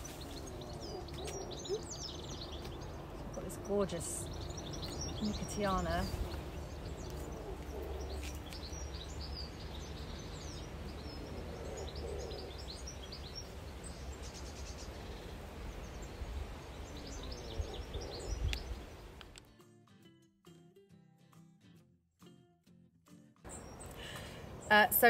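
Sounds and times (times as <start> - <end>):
small birds chirping: 0.0 - 19.4, 23.5 - 25.0.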